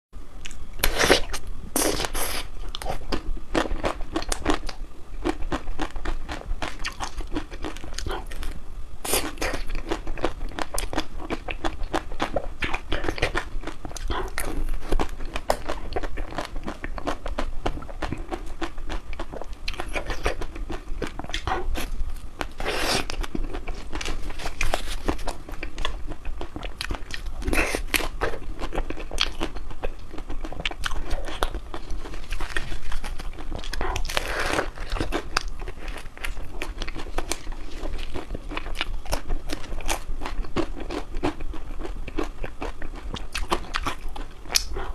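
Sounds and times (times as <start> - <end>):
crunching and chewing ice cream: 0.4 - 44.9.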